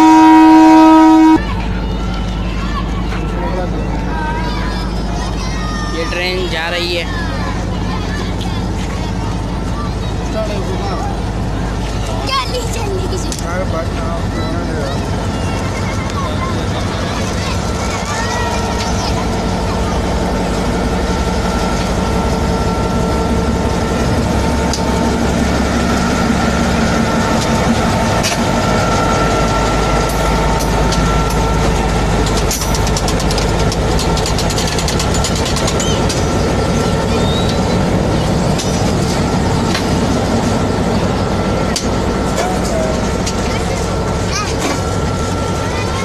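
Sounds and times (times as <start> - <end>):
locomotive engine idling: 0.0 - 46.0.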